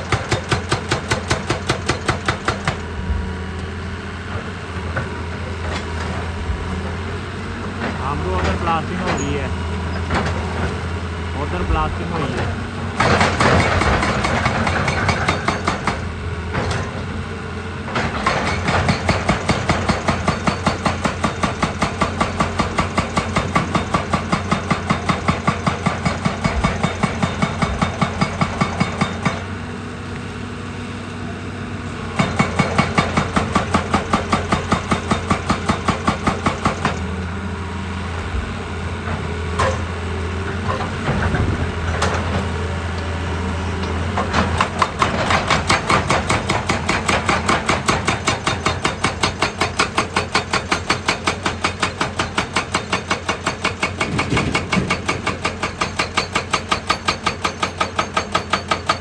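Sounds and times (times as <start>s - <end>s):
diesel engine running: 0.0s - 56.1s.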